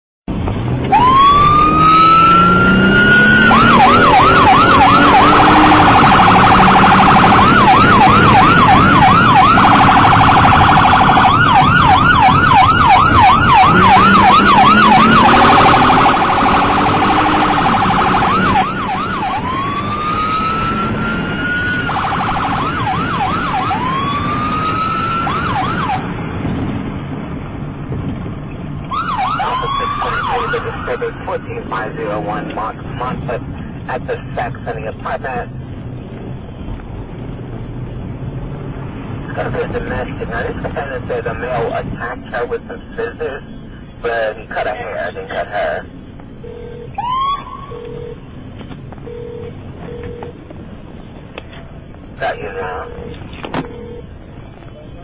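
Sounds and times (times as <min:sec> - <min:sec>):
police siren wailing and yelping: 0:00.8 - 0:26.2, 0:28.8 - 0:35.5, 0:39.3 - 0:48.4, 0:51.5 - 0:55.0.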